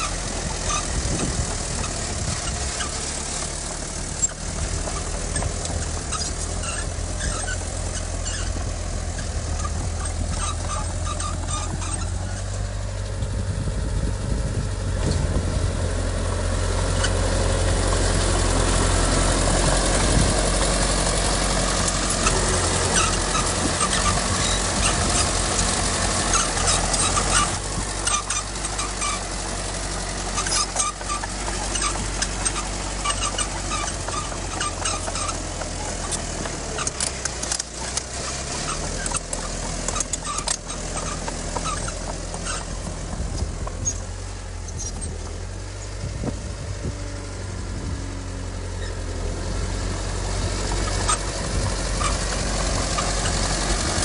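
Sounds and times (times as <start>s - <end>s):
clanking and rattling: 0.0s - 48.0s, 48.7s - 54.0s
heavy diesel engine running: 0.0s - 54.0s.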